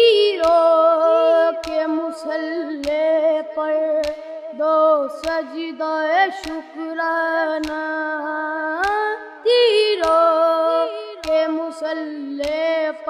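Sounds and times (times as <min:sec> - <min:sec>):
low knocks of a beat: 0:00.0 - 0:12.8
boy singing: 0:00.0 - 0:13.0.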